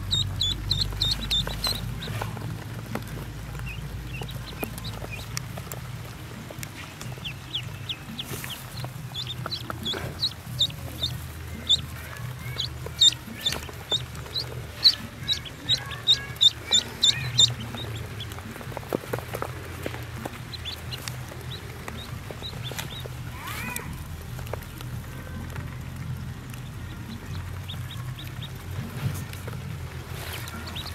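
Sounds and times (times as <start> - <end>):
duckling peeping: 0.0 - 24.8, 25.4 - 30.9.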